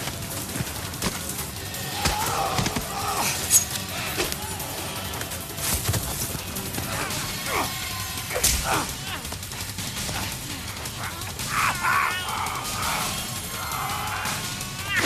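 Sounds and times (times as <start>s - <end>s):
background music: 0.0s - 15.0s
people grunting and crying out: 0.0s - 15.0s.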